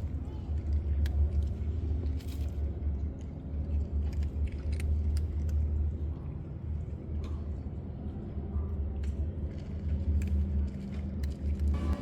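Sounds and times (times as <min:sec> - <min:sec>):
small clicks and rustles: 0:00.4 - 0:07.5, 0:09.0 - 0:11.8.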